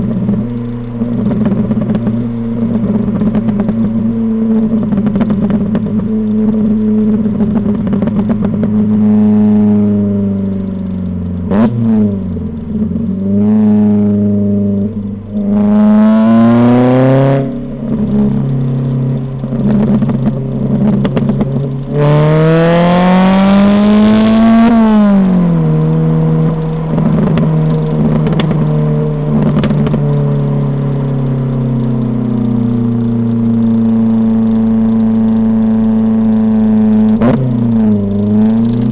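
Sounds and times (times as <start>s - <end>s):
car engine revving: 0.0s - 38.9s
exhaust pops and crackles: 0.0s - 38.9s.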